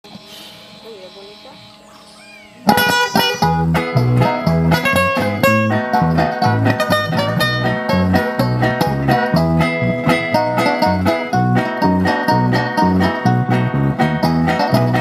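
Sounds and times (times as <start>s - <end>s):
bass line: 2.5s - 15.0s
plucked guitars: 2.6s - 15.0s.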